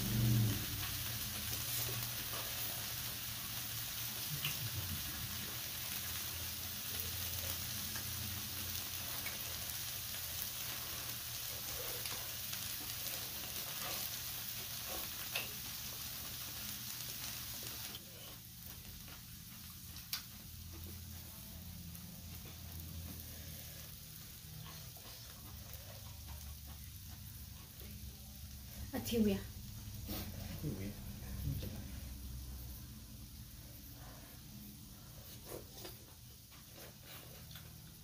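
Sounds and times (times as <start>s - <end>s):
meat sizzling on a grill: 0.0s - 38.0s.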